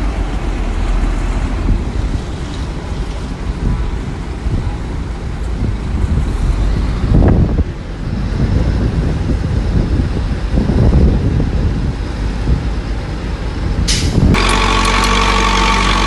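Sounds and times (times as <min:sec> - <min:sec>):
wind on microphone: 0:00.0 - 0:14.4
heavy diesel engine rumbling: 0:00.0 - 0:16.0.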